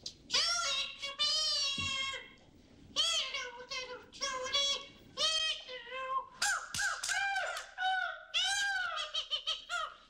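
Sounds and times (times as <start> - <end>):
high squeaky puppet voice: 0.3 - 2.3, 3.0 - 10.0.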